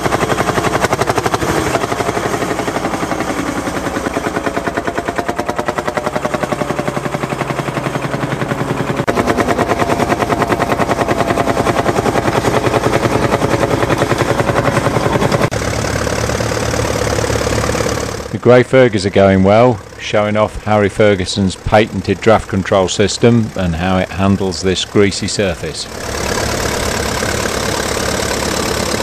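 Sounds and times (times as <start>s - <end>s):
diesel tractor engine under load: 0.0s - 29.0s
different tractor engine: 0.0s - 29.0s.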